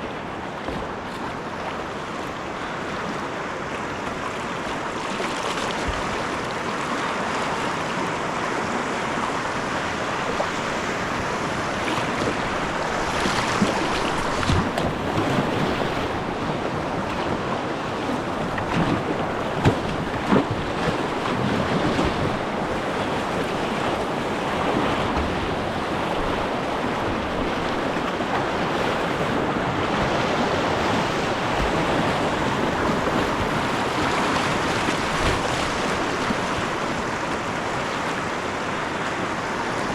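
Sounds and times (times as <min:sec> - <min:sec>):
river water rushing around kayak: 0:00.0 - 0:39.9.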